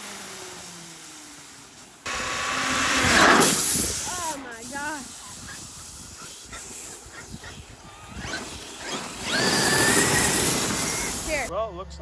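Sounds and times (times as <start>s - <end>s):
electric motor whine: 0.0s - 4.9s, 6.3s - 11.5s
tyres and rake scraping pavement: 0.0s - 11.5s.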